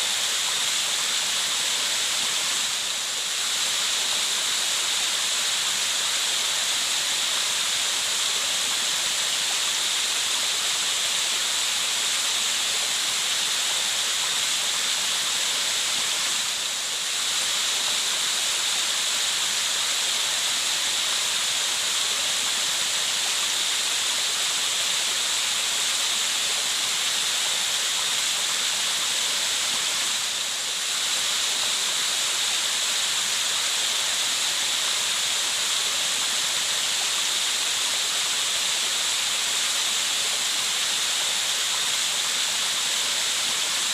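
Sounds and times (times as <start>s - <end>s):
steady rushing hiss: 0.0s - 43.9s.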